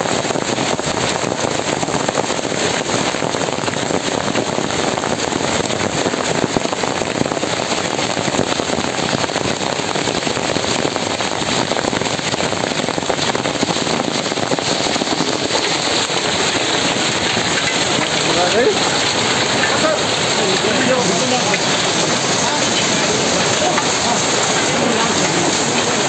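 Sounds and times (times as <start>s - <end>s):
heavy hail clattering: 0.0s - 26.0s.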